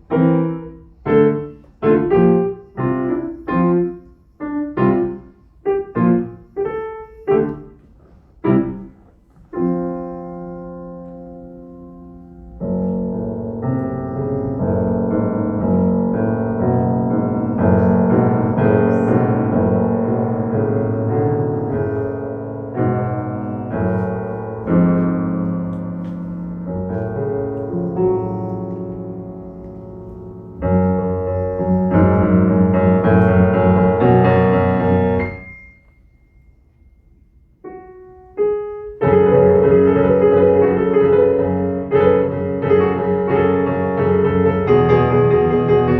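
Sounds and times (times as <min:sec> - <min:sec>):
solo piano chords: 0:00.0 - 0:45.9.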